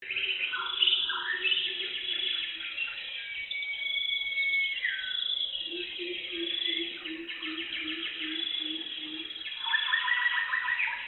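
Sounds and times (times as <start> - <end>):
forest birds calling: 0.0 - 11.0.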